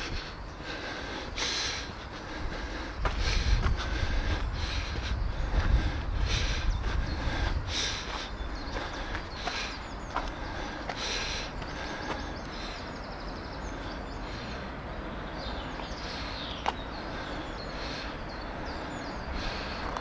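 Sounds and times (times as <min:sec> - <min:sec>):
distant city traffic hum: 0:00.0 - 0:20.0
small birds chirping: 0:00.0 - 0:20.0.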